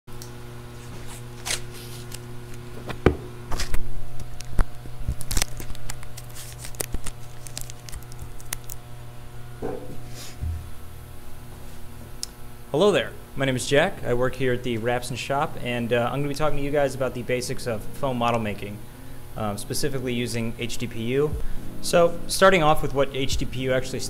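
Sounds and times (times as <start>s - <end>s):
steady low electrical hum: 0.1s - 24.0s.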